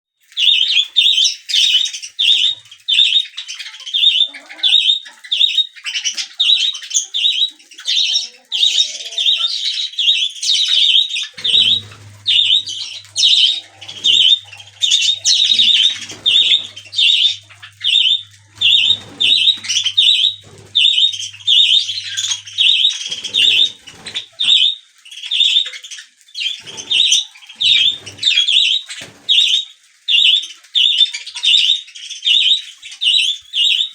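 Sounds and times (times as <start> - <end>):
budgerigars chirping: 0.4 - 33.9.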